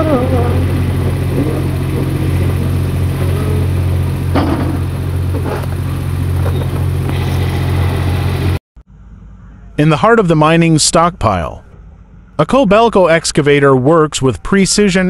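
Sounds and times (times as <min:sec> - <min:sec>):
excavator diesel engine running: 0:00.0 - 0:13.2.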